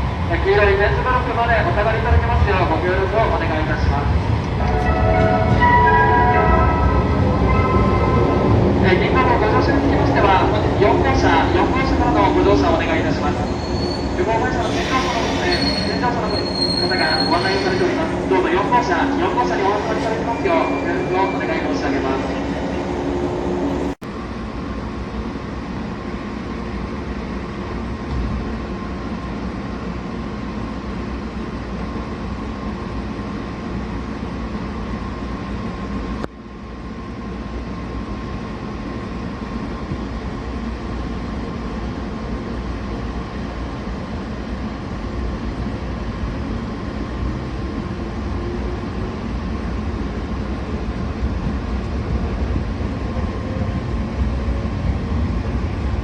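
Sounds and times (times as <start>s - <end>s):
train rumble and rail noise: 0.0s - 56.0s.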